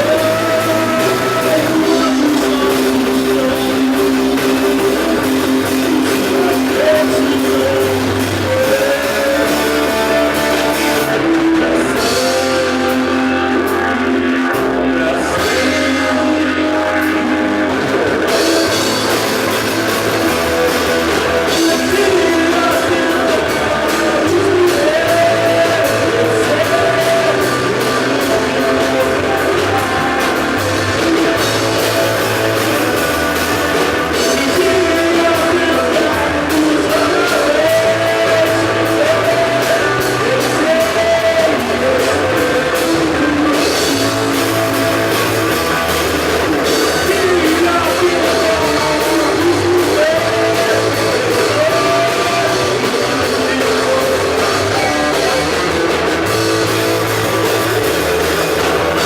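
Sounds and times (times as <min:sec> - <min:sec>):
bass line: 0:00.0 - 0:59.0
drum kit: 0:00.0 - 0:59.0
electric guitar: 0:00.0 - 0:59.0
rock band playing live: 0:00.0 - 0:59.0.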